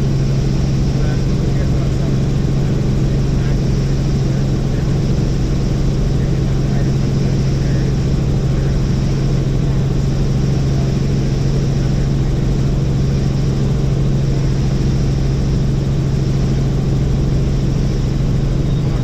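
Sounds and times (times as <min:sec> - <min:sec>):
helicopter rotors droning: 0:00.0 - 0:19.0.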